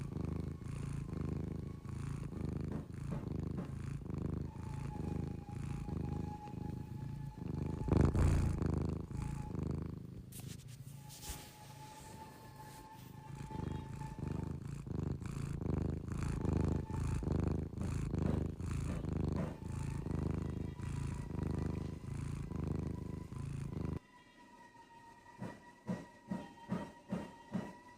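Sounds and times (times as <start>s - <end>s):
cat snoring: 0.0s - 24.0s.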